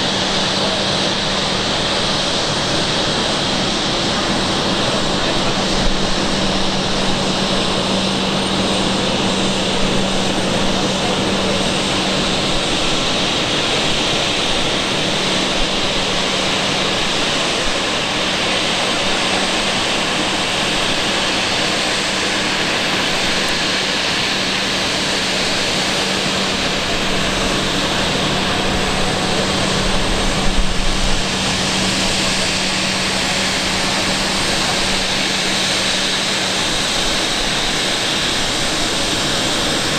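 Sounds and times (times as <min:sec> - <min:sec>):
constant engine hum: 0:00.0 - 0:39.9
jet engine hiss: 0:00.0 - 0:39.9.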